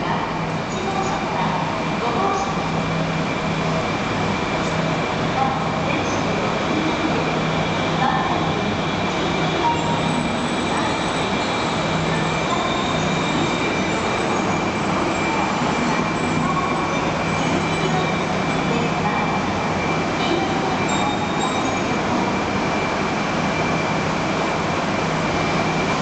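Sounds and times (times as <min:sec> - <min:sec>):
train running with whine and hum: 0:00.0 - 0:26.0.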